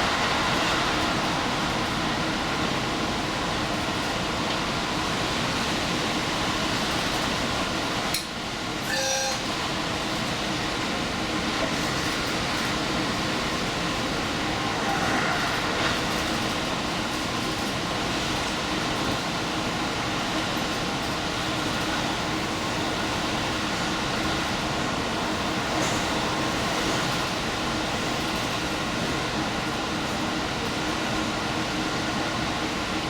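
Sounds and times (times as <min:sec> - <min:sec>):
train engine and wheel-on-rail noise: 0:00.0 - 0:33.0.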